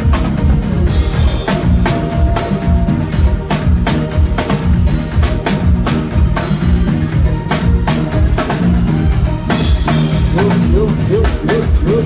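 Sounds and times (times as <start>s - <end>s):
drum kit beat: 0.0s - 12.0s
sustained bass line: 0.0s - 12.0s.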